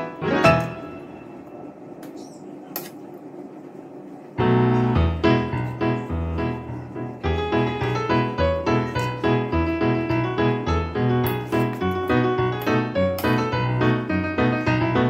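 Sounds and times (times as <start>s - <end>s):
piano music: 0.0s - 1.9s, 4.4s - 15.0s.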